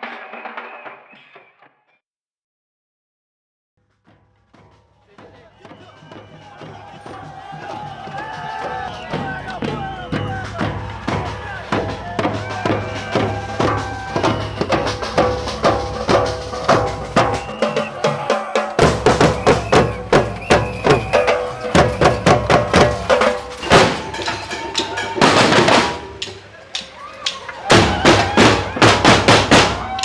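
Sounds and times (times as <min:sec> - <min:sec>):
drum band playing: 0:00.0 - 0:01.5, 0:04.0 - 0:30.0
held melodic tones: 0:05.6 - 0:30.0.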